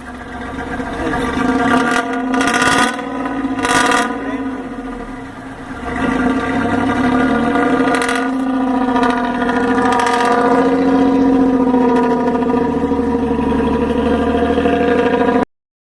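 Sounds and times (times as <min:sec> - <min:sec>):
diesel bus engine droning: 0:00.0 - 0:15.5.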